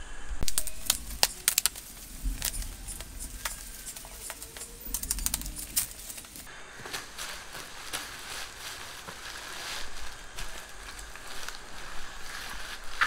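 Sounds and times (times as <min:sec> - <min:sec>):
cardboard packaging crackling: 0:00.4 - 0:13.0.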